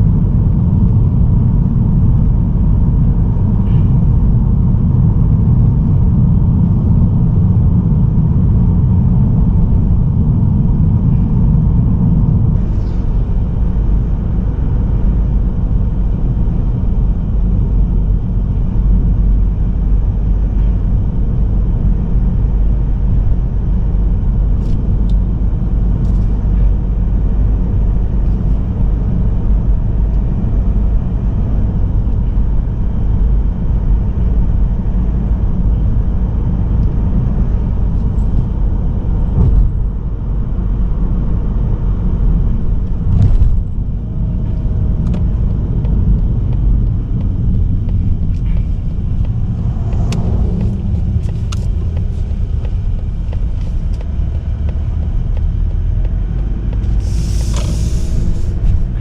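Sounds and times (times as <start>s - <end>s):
car cabin road rumble: 0.0s - 59.0s.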